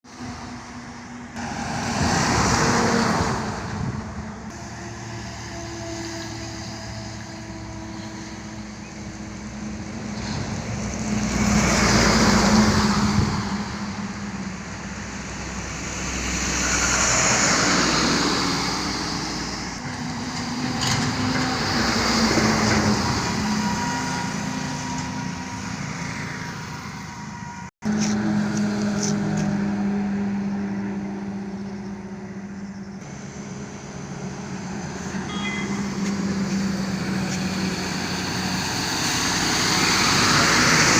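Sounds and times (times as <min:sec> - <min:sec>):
steady engine hum: 0:00.0 - 0:40.9
trucks passing on highway: 0:00.0 - 0:40.9.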